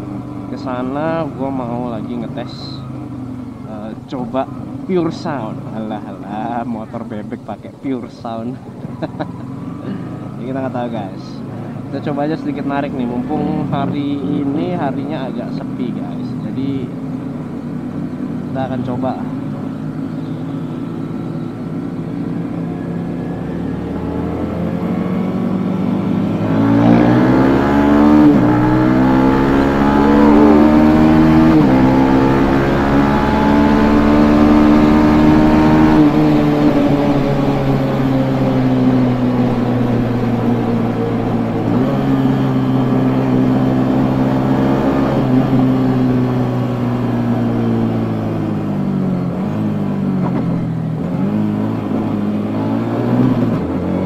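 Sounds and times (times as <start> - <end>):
motorcycle engine accelerating: 8.6 - 54.0.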